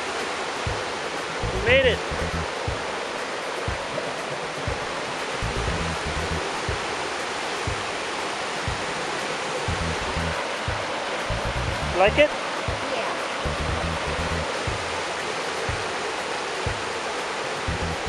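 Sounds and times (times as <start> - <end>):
river rushing over boulders: 0.0 - 18.0.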